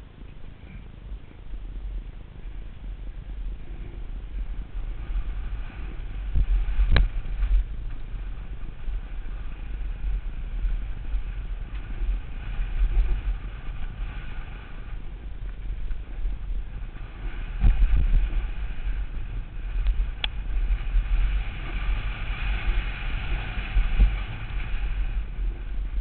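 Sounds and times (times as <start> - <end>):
wind buffeting: 0.0 - 26.0
bike rolling over rough trail: 1.5 - 26.0.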